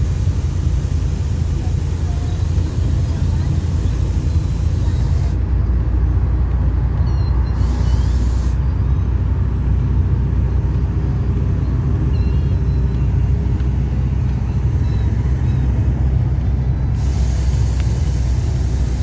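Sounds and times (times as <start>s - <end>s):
bus engine droning: 0.0s - 19.0s.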